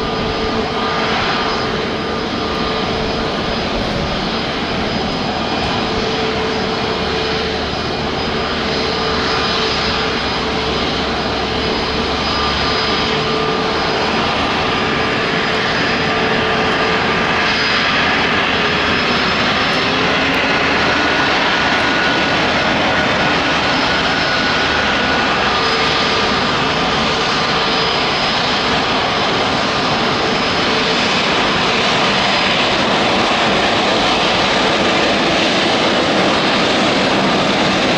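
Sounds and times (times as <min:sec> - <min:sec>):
jet airliner landing: 0:00.0 - 0:37.9.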